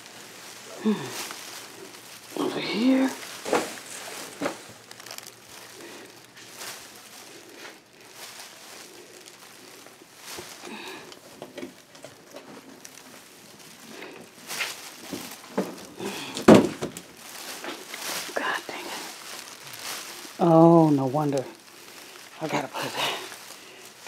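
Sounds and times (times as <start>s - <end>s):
rustling cardboard boxes: 0.0s - 24.0s.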